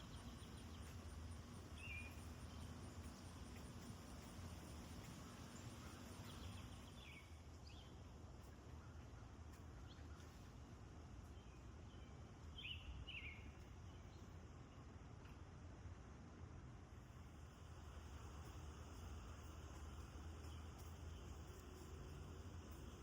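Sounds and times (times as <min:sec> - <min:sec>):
low outdoor background noise: 0:00.0 - 0:23.0.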